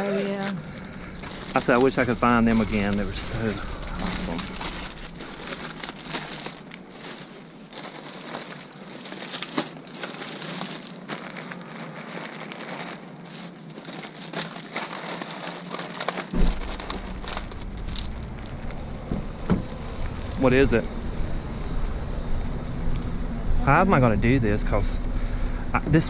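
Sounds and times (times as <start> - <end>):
plastic bags rustling: 0.0 - 20.9.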